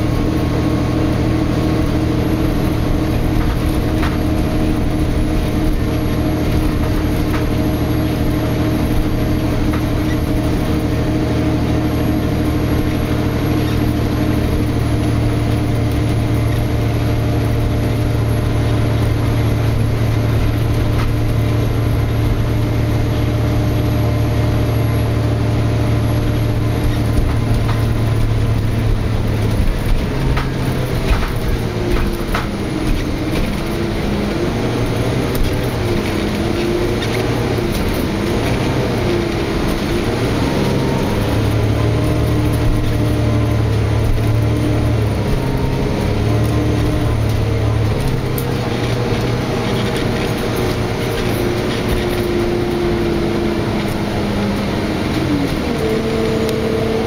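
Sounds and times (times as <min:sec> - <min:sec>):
bus diesel engine drone: 0:00.0 - 0:57.0
engine knocks: 0:00.0 - 0:57.0
road and body noise: 0:00.0 - 0:57.0.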